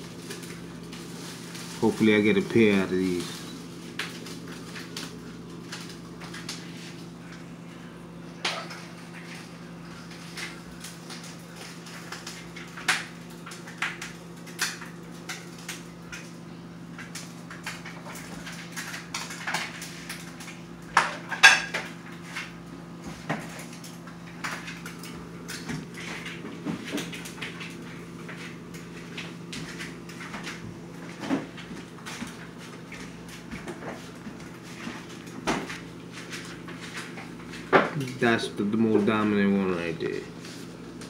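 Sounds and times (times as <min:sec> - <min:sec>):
aquarium air pump hum: 0:00.0 - 0:41.0.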